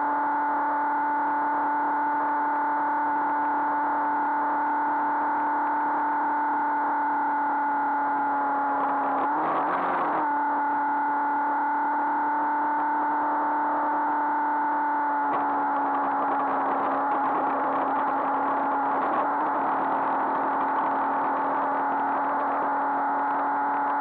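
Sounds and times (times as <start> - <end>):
motorcycle engine droning: 0.0 - 24.0.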